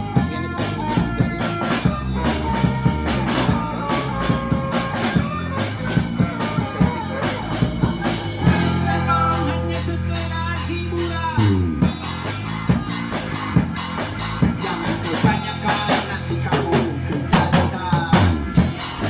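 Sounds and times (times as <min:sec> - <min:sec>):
person singing: 0:00.0 - 0:19.0
rock music with drums and guitar: 0:00.0 - 0:19.0.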